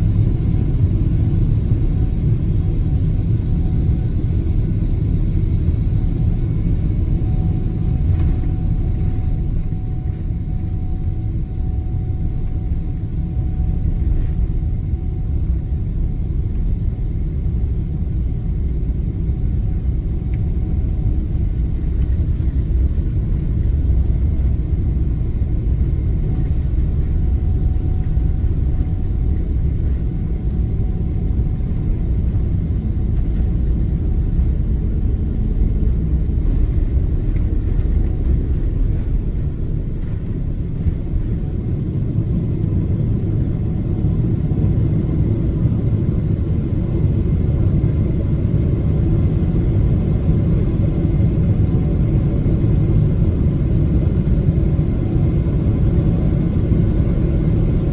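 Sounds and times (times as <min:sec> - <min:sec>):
jet engines deep rumble: 0:00.0 - 0:57.9.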